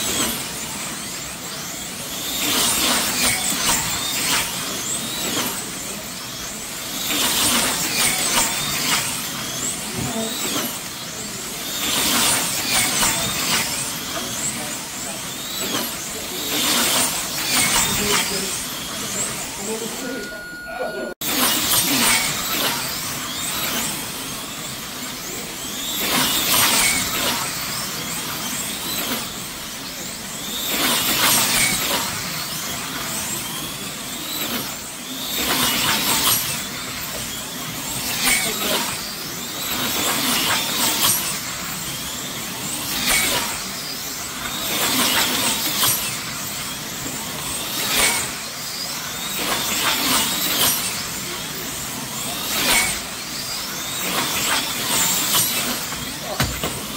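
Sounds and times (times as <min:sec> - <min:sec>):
slot car motors whining: 0:00.0 - 0:56.9.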